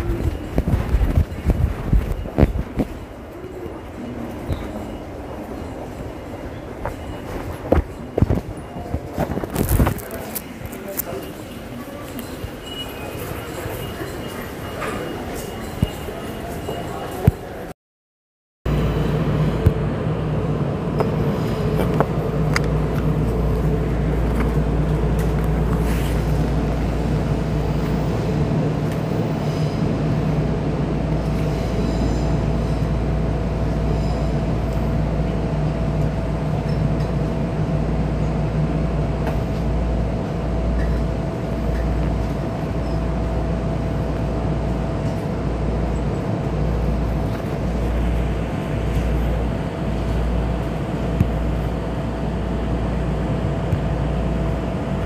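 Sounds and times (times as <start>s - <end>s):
train wheels rumbling on track: 0.0s - 17.7s, 18.7s - 55.0s.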